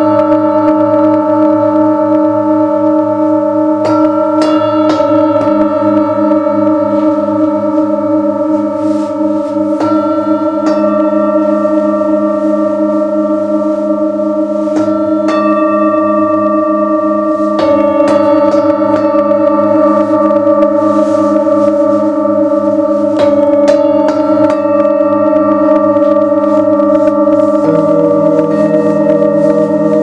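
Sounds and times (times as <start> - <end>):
metal singing bowls ringing: 0.0 - 30.0.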